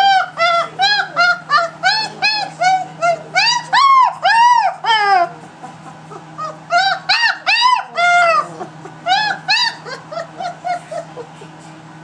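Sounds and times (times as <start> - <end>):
puppy whining and crying: 0.0 - 5.3, 6.1 - 11.4.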